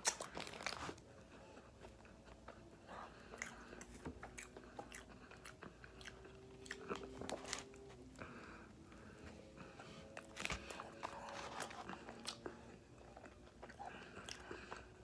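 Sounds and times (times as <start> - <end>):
mouth chewing food: 0.0 - 15.0.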